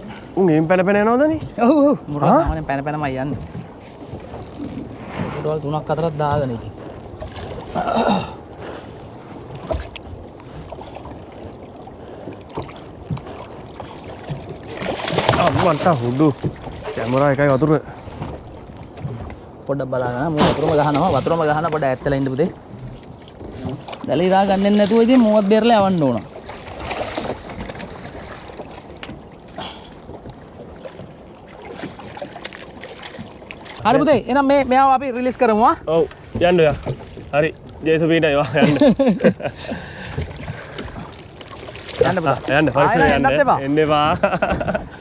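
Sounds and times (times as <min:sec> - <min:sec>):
water lapping around a boat: 0:00.0 - 0:45.0.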